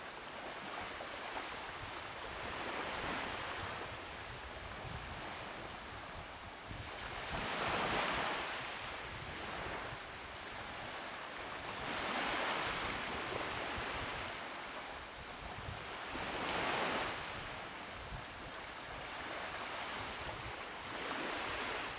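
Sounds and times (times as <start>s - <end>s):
small waves breaking on beach: 0.0s - 21.9s.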